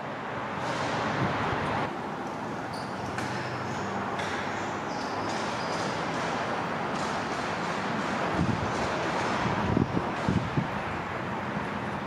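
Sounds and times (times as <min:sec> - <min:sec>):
wind rushing through shed: 0:00.0 - 0:12.0.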